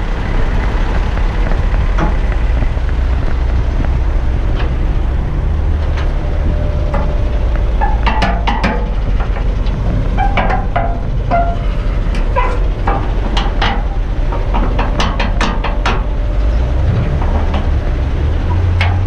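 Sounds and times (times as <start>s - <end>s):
metallic clanks and rattles: 0.0s - 19.0s
truck diesel engine running: 0.0s - 19.0s.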